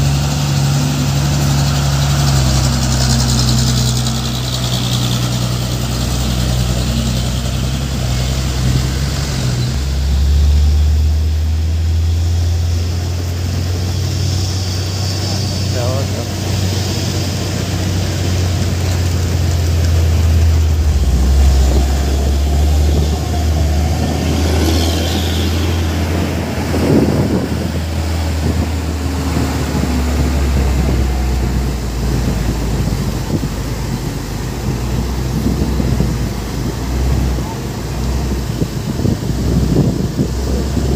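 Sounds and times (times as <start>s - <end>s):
truck diesel engines droning: 0.0s - 40.9s.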